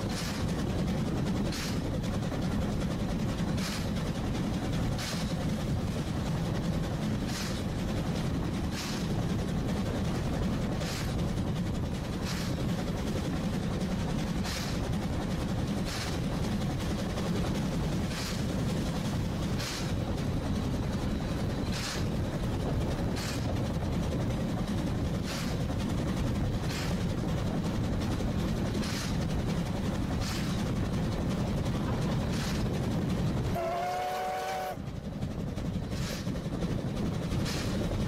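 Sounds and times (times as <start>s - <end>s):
rail clacks: 0.0s - 38.0s
train rumbling: 0.0s - 38.0s.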